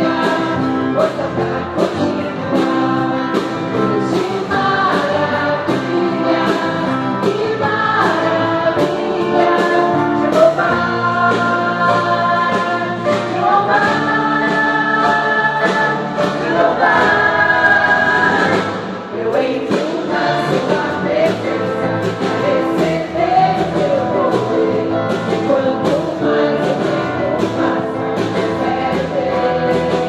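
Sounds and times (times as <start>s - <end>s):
choir singing gospel: 0.0s - 30.0s
steady drum beat: 0.0s - 30.0s.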